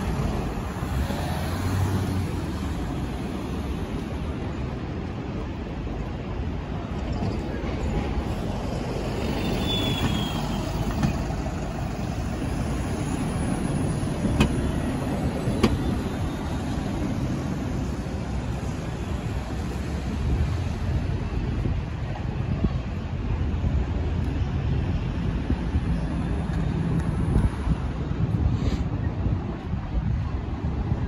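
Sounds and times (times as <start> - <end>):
bus engine rumble: 0.0 - 31.0
city street traffic: 0.0 - 31.0.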